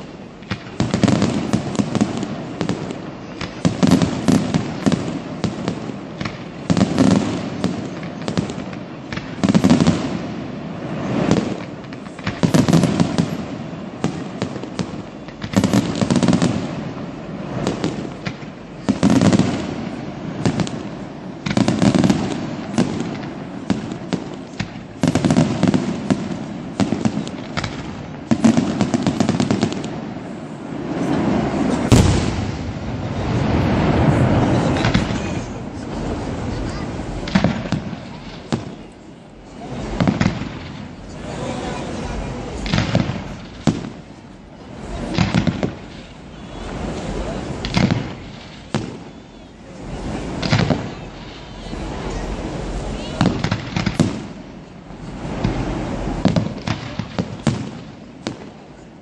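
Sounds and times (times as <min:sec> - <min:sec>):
fireworks bangs and crackle: 0:00.0 - 0:59.0
fireworks low rumble: 0:00.0 - 0:59.0.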